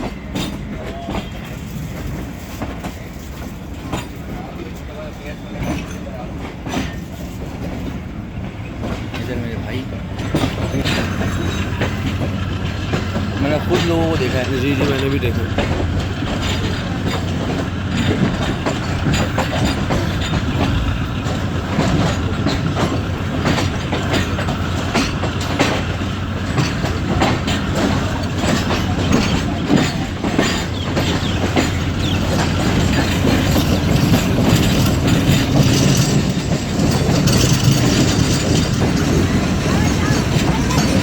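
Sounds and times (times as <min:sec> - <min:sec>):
train rumble: 0:00.0 - 0:41.0
train wheels clattering over rails: 0:00.0 - 0:41.0.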